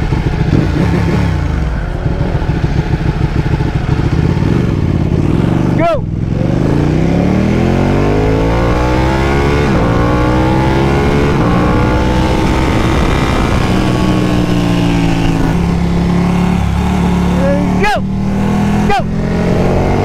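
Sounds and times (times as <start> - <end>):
motorcycle engine accelerating hard: 0.0 - 20.0.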